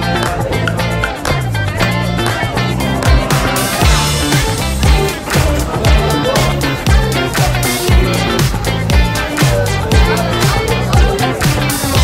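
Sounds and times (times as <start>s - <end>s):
bass line: 0.0s - 12.0s
plucked guitar: 0.0s - 12.0s.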